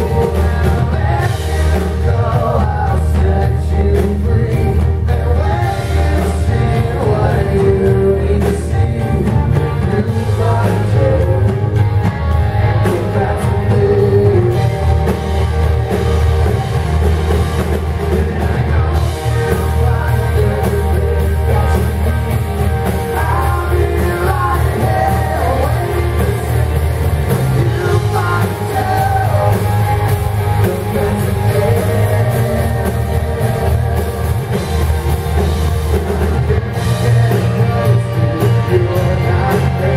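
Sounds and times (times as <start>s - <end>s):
person singing: 0.0s - 16.1s, 17.8s - 34.9s, 35.8s - 39.9s
live rock band playing: 0.0s - 39.9s.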